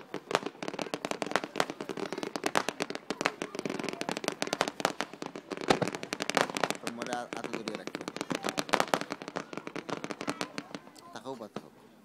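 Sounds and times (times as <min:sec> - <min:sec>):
fireworks cracking and banging: 0:00.0 - 0:11.8.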